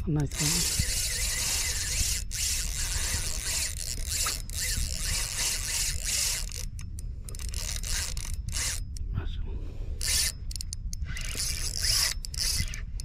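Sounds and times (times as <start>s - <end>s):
fishing reel whirring and ticking: 0.1s - 9.0s, 10.0s - 13.0s.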